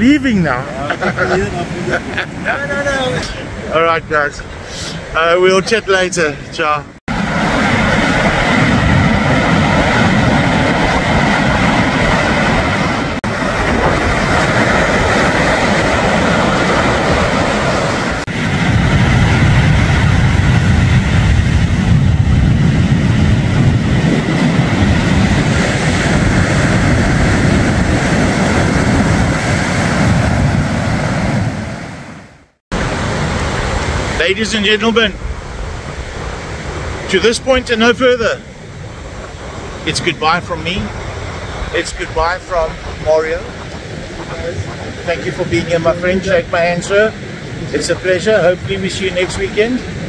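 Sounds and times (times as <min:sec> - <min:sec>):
sea waves breaking on beach: 0:07.1 - 0:50.0.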